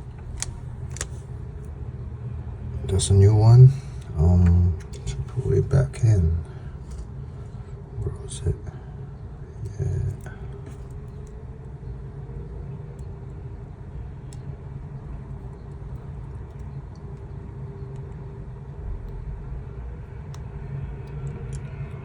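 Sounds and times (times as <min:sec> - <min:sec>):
low rumble and hum: 0:00.0 - 0:22.0.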